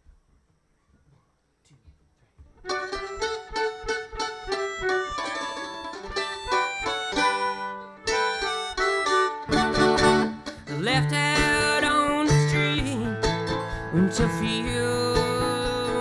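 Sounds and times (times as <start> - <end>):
acoustic string band playing: 2.6 - 16.0.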